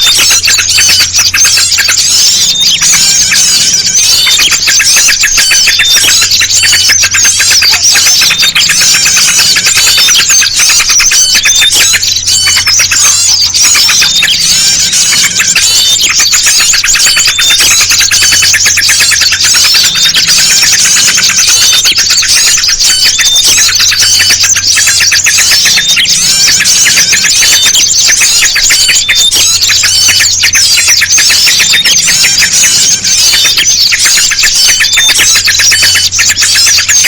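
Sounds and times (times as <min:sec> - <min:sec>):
bulbul calls: 0:00.0 - 0:37.0
songbirds chirping and trilling: 0:00.0 - 0:37.0.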